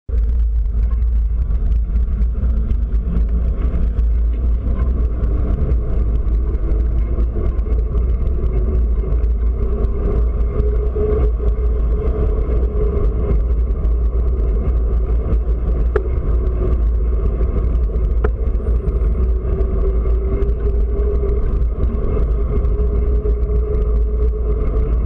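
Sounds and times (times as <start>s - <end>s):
wind buffeting microphone: 0.1s - 25.0s
car traffic hum: 0.7s - 24.9s.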